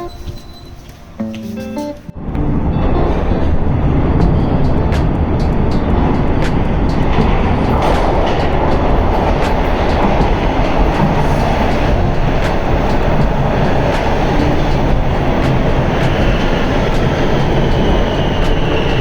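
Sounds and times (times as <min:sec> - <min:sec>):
rail car rumbling on track: 0:00.0 - 0:19.0.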